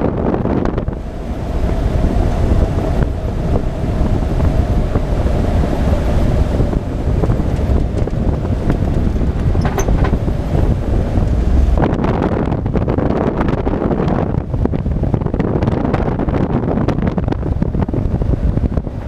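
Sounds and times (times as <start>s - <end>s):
aircraft engine and propeller drone: 0.0s - 19.0s
wind noise on microphone: 0.0s - 19.0s.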